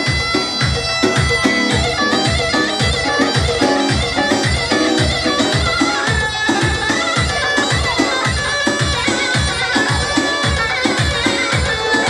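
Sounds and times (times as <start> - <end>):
wind instrument melody: 0.0 - 12.0.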